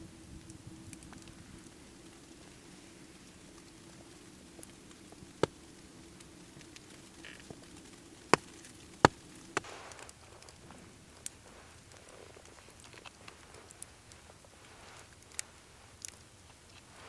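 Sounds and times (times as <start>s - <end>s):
sharp cracks: 0.4s - 14.2s
faint ticks: 0.4s - 17.0s.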